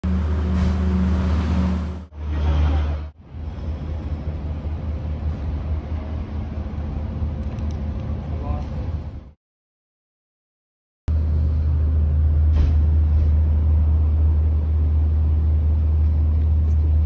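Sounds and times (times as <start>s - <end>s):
road traffic rumble: 0.0s - 9.4s, 11.1s - 17.0s.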